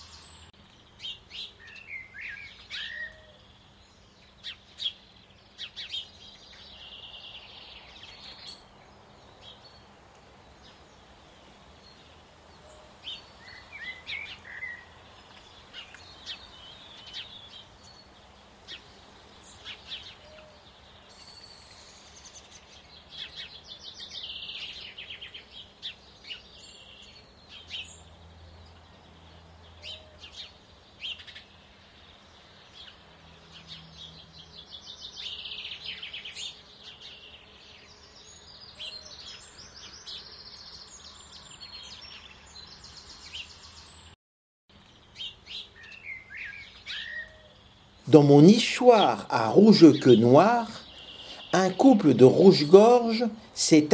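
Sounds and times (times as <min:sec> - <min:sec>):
songbirds singing and chirping: 0:00.0 - 0:53.9.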